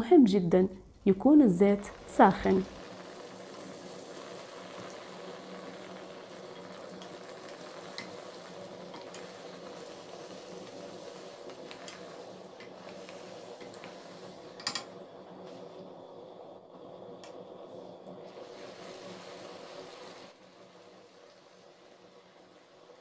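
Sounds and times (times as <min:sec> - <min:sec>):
dough sizzling in hot oil: 0:01.2 - 0:23.0.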